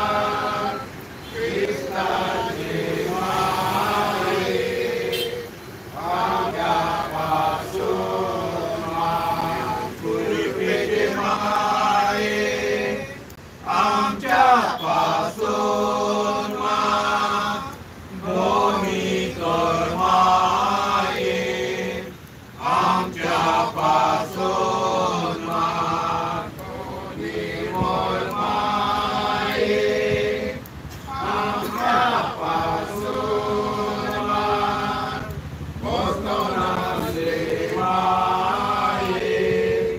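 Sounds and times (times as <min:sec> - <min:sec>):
group of men chanting: 0:00.0 - 0:39.9.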